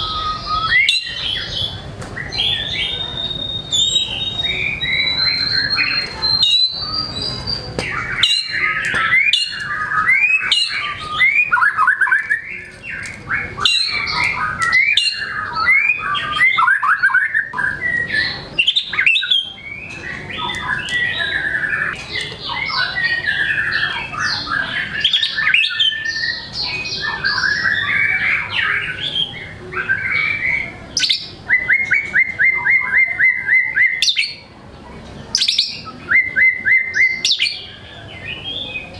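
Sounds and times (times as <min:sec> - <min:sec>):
songbird whistles and trills: 0:00.0 - 0:34.4, 0:35.3 - 0:38.9.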